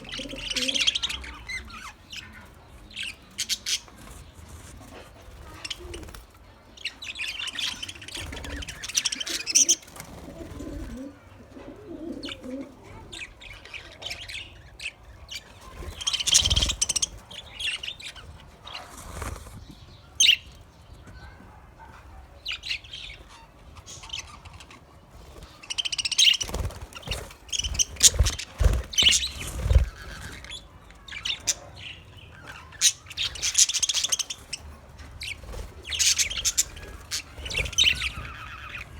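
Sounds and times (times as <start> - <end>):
budgerigars chirping: 0.0 - 4.8, 6.8 - 10.7, 13.1 - 19.4, 21.8 - 38.9.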